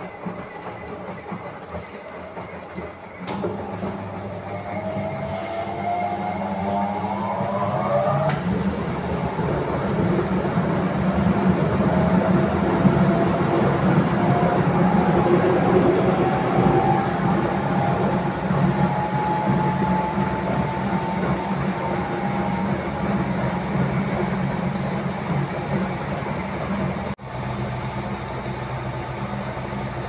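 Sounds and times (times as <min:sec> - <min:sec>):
washing machine motor whine: 0:00.0 - 0:30.0.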